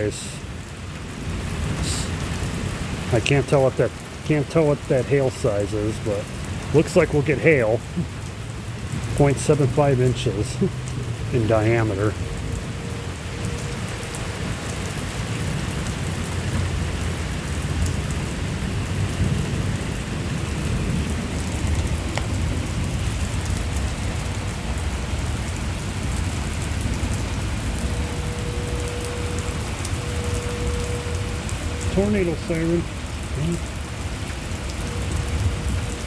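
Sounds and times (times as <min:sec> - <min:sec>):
distant tornado siren: 0:00.0 - 0:36.0
steady rain: 0:00.0 - 0:36.0.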